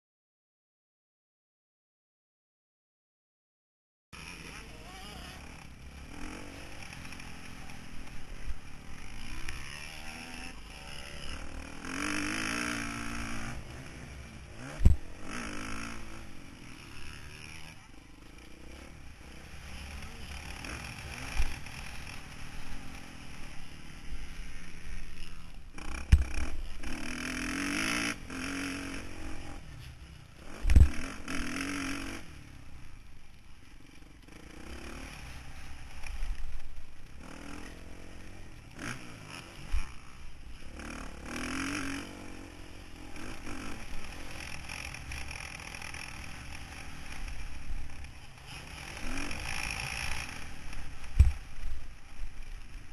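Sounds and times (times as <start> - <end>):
motocross bike engine revving: 4.2 - 52.9.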